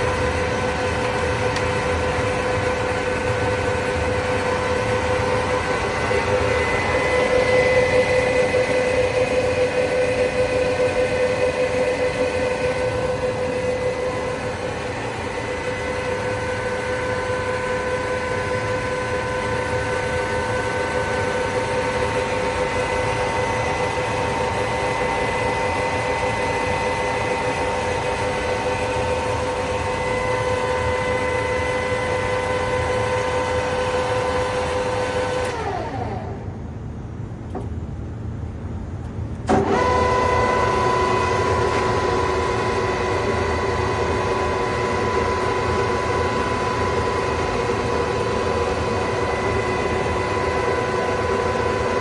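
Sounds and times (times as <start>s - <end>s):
lathe spindle whine: 0.0s - 37.2s, 39.5s - 52.0s.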